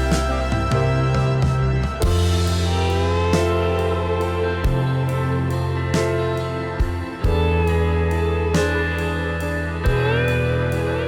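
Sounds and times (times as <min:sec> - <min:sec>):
steady bass: 0:00.0 - 0:11.0.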